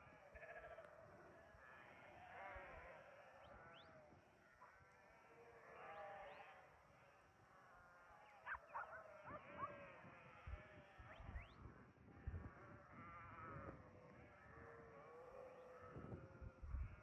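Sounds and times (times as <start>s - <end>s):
flock of sheep bleating: 0.0s - 17.0s.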